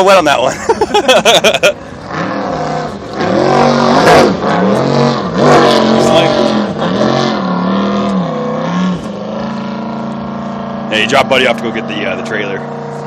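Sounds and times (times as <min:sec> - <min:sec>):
boat engine revving: 0:00.2 - 0:13.0.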